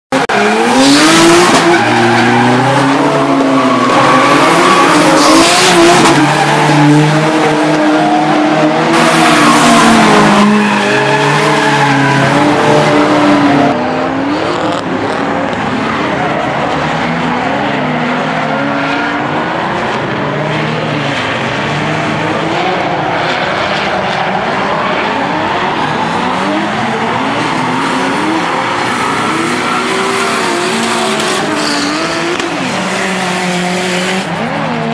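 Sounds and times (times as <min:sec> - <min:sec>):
car engines revving: 0:00.1 - 0:34.9.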